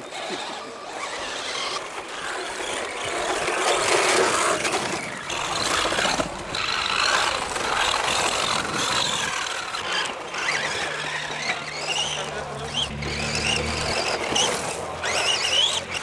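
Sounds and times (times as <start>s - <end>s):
rc car driving on gravel: 0.0s - 16.0s.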